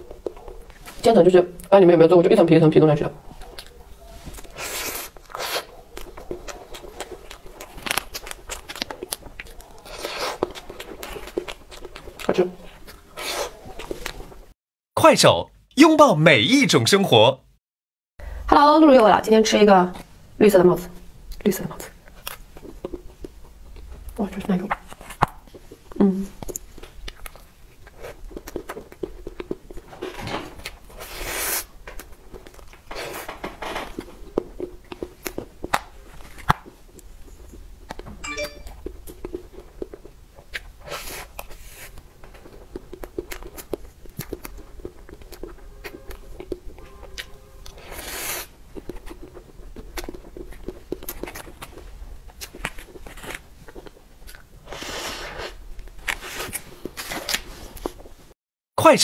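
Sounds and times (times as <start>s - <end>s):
chewing and mouth sounds: 0.0s - 1.0s, 3.3s - 14.4s, 21.3s - 33.2s, 33.9s - 58.1s.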